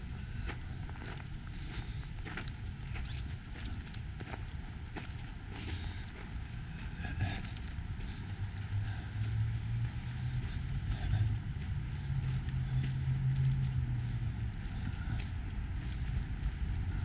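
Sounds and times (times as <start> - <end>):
footsteps on gravel: 0.0 - 17.0
road traffic hum: 0.0 - 17.0.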